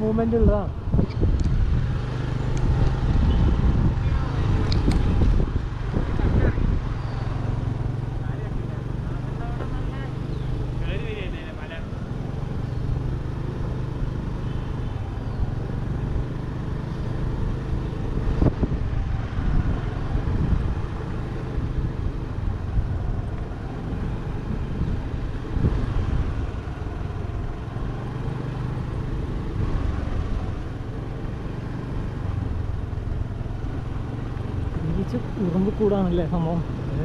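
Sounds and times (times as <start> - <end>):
car engine hum: 0.0 - 37.0
road and wind noise: 0.0 - 37.0.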